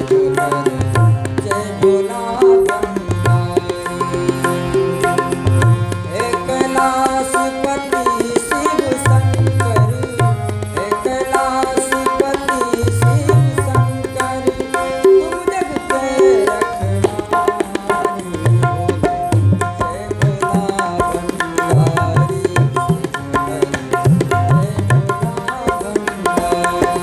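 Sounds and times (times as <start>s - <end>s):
harmonium melody: 0.0s - 27.0s
tabla rhythm: 0.0s - 27.0s.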